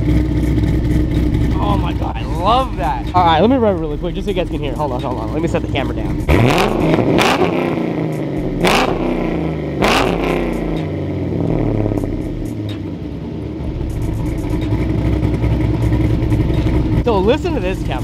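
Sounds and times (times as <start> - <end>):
car engine revving and lopey idle: 0.0 - 18.0.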